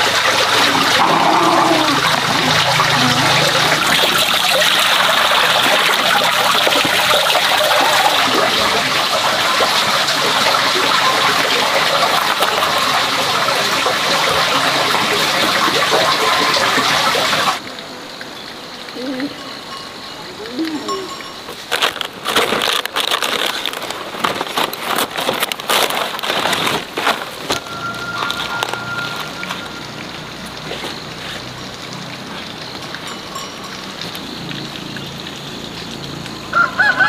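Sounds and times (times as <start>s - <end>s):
river water rushing: 0.0s - 18.2s, 25.0s - 37.0s.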